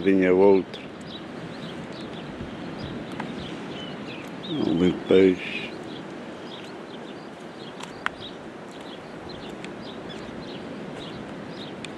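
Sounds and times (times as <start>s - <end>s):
small birds chirping: 0.0s - 11.9s
steady background hiss: 0.0s - 11.9s.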